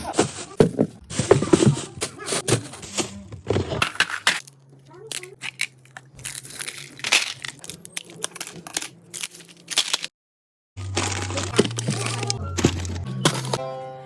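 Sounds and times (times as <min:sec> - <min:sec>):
food packages being handled: 0:00.0 - 0:10.1, 0:10.8 - 0:13.6.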